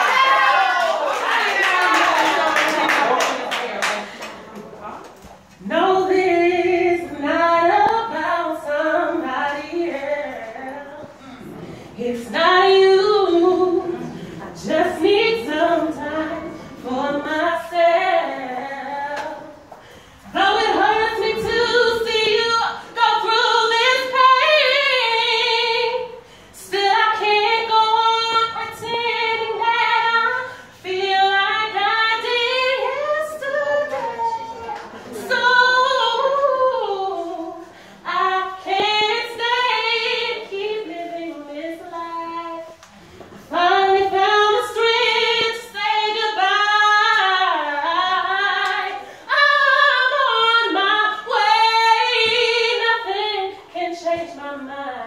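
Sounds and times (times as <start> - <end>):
woman singing unaccompanied: 5.6 - 11.2, 12.0 - 19.6, 20.3 - 42.8, 43.5 - 55.0.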